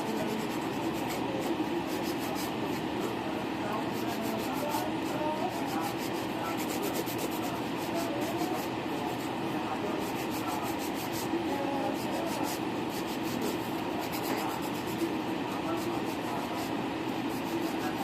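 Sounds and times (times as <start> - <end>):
nail file rubbing on nails: 0.0 - 2.9, 3.7 - 18.0.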